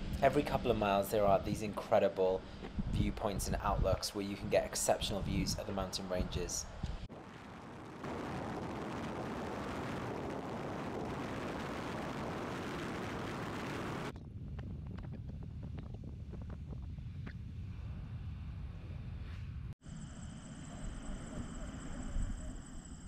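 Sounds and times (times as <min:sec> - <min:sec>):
wind and tyre noise: 0:00.0 - 0:23.0.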